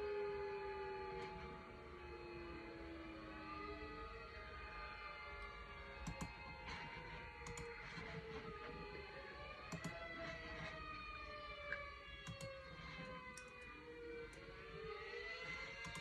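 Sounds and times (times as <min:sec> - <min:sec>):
faint warning sirens: 0:00.0 - 0:16.0.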